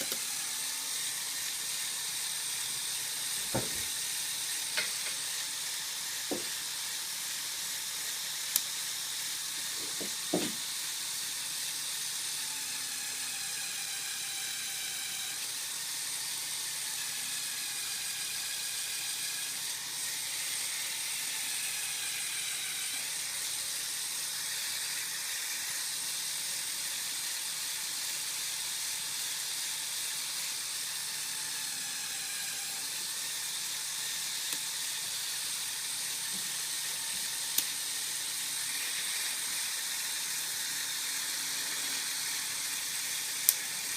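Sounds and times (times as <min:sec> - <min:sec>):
electric motor and gears whirring: 0:00.0 - 0:43.9.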